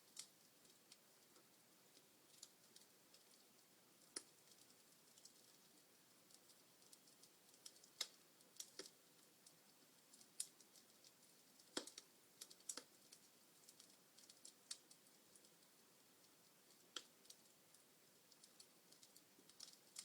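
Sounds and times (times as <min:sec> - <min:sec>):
log fire crackling: 0:00.0 - 0:20.0.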